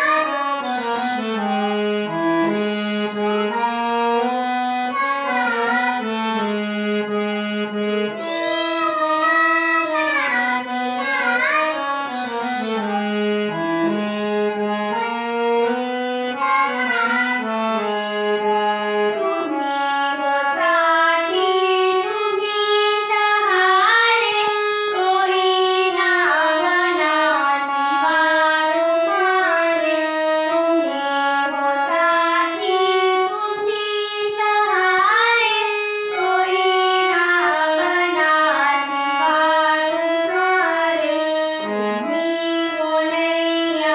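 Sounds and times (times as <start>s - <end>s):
girl singing devotional song: 0.0s - 7.3s, 8.0s - 13.6s, 14.5s - 43.9s
reedy harmonium accompaniment: 0.0s - 43.9s.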